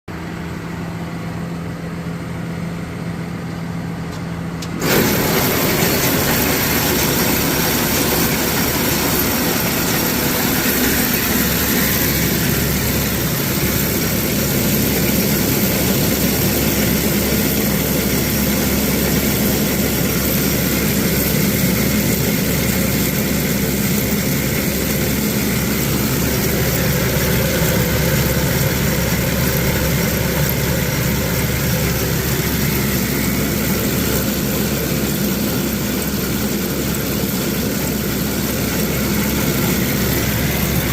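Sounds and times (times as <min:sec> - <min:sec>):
machinery humming: 0:00.2 - 0:40.9
loud machine noise: 0:04.4 - 0:40.9.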